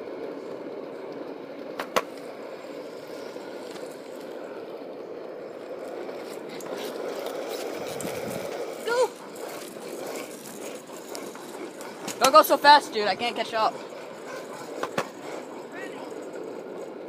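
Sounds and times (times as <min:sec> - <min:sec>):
wheels rolling over pavement: 0:00.0 - 0:17.0.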